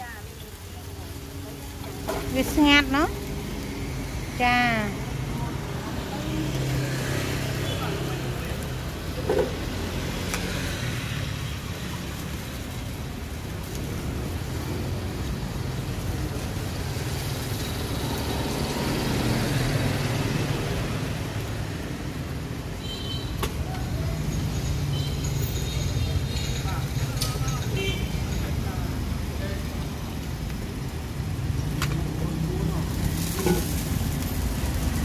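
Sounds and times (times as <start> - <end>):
rumble of passing vehicles: 0.0 - 35.0.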